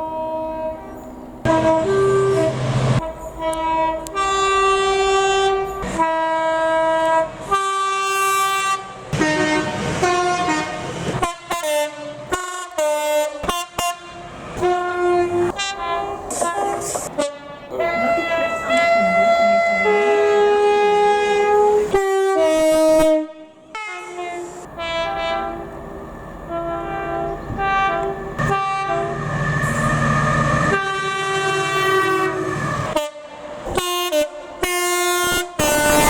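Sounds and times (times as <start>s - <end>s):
two-tone train horn tune: 0.0s - 25.8s, 26.4s - 36.0s.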